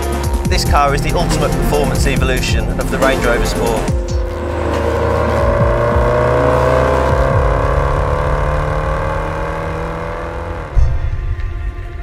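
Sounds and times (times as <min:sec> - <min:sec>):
background music: 0:00.0 - 0:12.0
car engine accelerating: 0:00.0 - 0:12.0.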